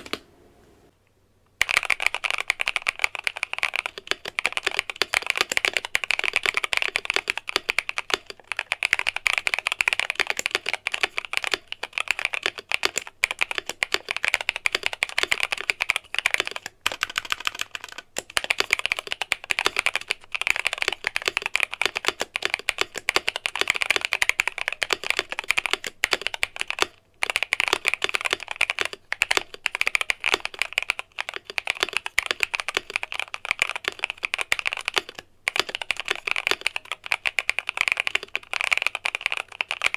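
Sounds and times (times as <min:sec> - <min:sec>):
mechanical keyboard typing: 0:00.0 - 0:00.3, 0:01.6 - 0:39.9.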